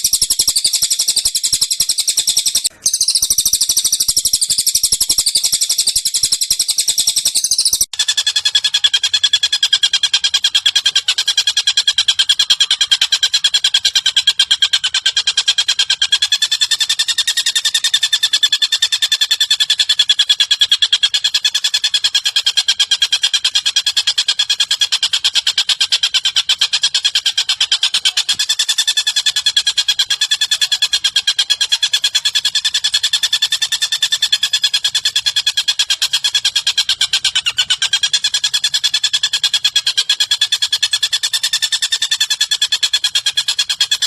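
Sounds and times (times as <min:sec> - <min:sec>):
bird trilling: 0:00.0 - 0:44.0.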